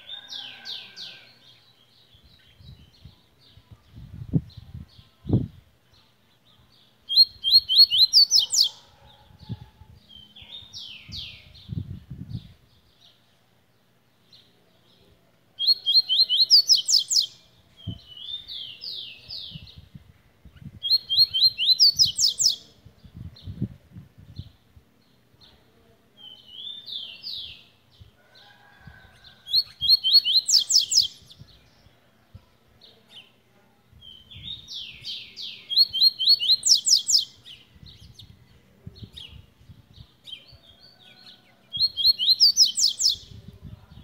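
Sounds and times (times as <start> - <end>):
songbird singing: 0.0 - 44.0.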